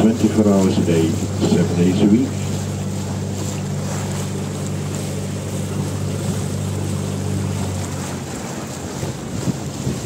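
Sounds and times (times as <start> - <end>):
boat motor humming: 0.0 - 10.0
water rushing around hull: 0.0 - 10.0.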